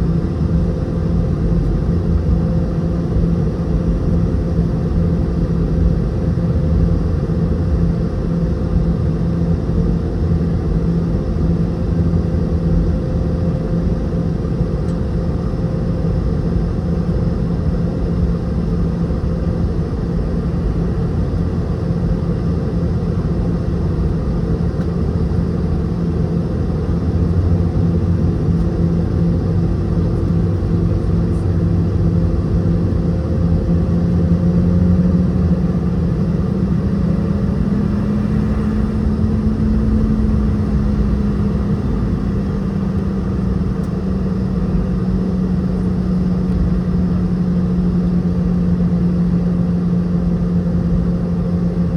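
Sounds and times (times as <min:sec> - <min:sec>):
aircraft cabin engine rumble: 0:00.0 - 0:51.9
steady engine hums: 0:00.0 - 0:51.9.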